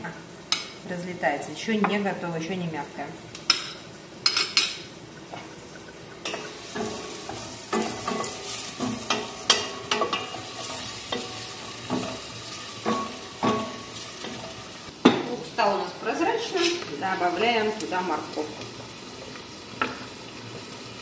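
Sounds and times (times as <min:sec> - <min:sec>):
onion sizzling in oil: 0:00.0 - 0:21.0.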